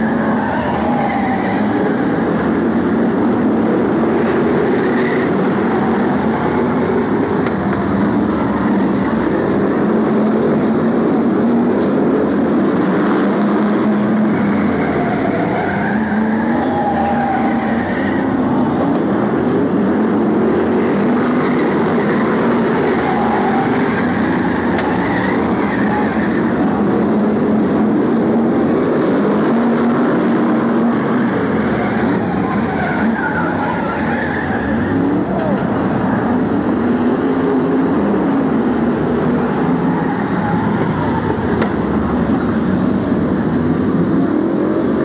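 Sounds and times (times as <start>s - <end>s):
race car engines roaring: 0.0s - 45.0s.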